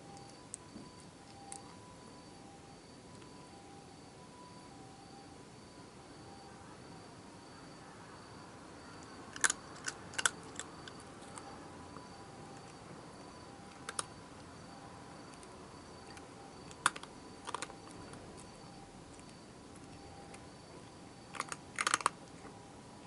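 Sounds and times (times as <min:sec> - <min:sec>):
night insects chirping: 0:00.0 - 0:23.0.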